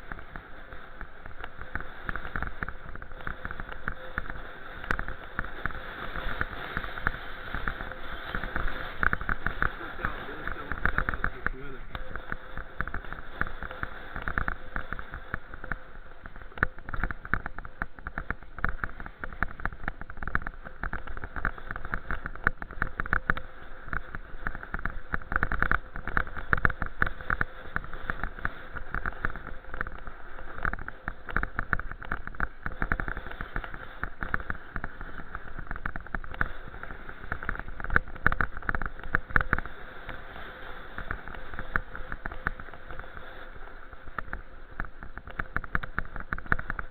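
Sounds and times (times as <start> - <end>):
wind and road rumble: 0.0 - 46.9.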